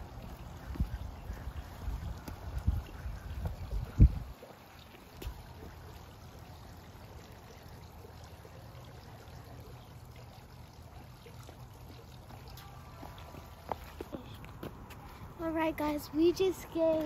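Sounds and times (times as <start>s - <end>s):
fountain water splashing: 0.0s - 14.4s.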